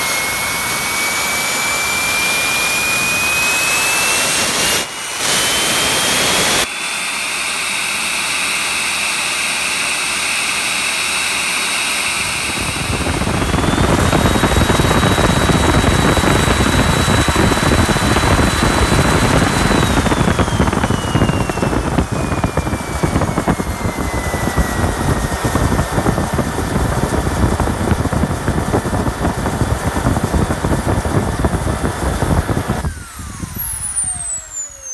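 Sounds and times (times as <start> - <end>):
model jet turbine whining and roaring: 0.0 - 34.9.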